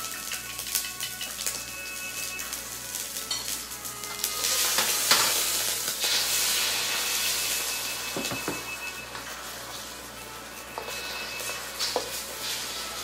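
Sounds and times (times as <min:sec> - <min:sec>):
egg sizzling in a wok: 0:00.0 - 0:13.0.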